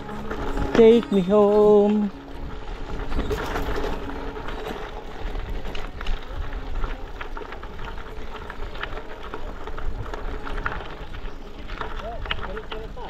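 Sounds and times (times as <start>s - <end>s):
bicycle tyre noise: 0.0s - 13.0s.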